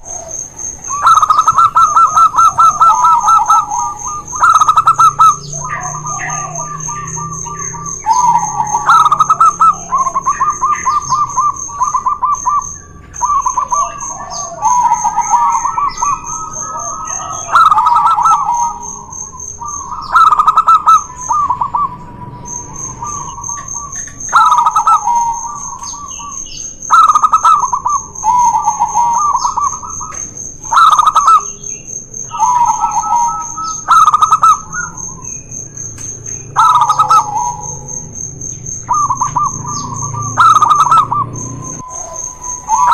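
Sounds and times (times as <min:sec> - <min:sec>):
doves cooing: 0:00.0 - 0:42.9
sharp loud chirps: 0:00.0 - 0:42.9.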